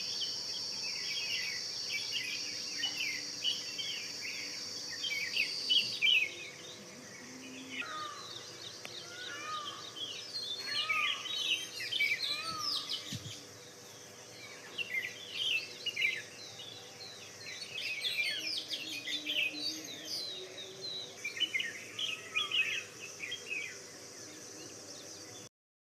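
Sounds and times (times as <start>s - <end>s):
birds chirping and singing: 0.0s - 25.5s
high insect buzz: 0.0s - 25.5s.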